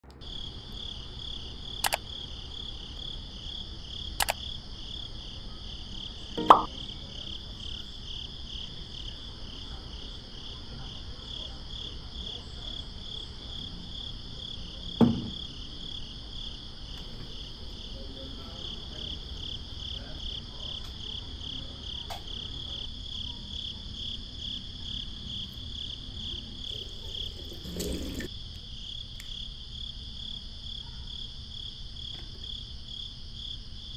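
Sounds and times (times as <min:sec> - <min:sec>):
crickets chirping: 0:00.2 - 0:33.9.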